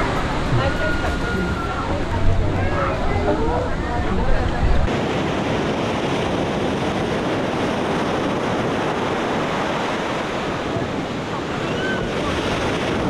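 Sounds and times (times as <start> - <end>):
ocean surf washing: 0.0 - 13.0.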